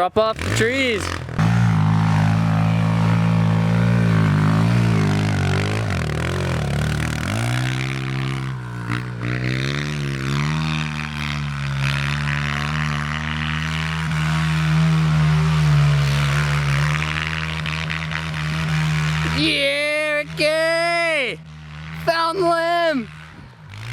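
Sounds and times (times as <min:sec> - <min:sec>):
dirt bike engine running: 0:00.0 - 0:23.9.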